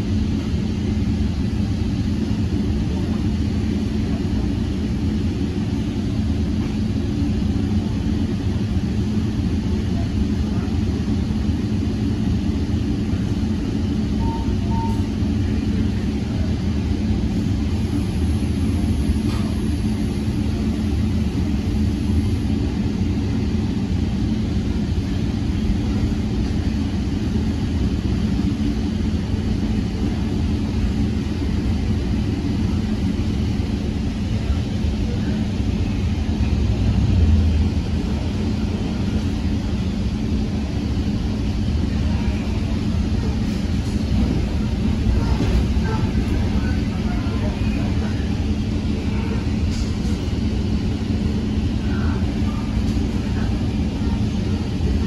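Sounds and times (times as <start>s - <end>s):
train running noise from inside: 0.0s - 55.0s.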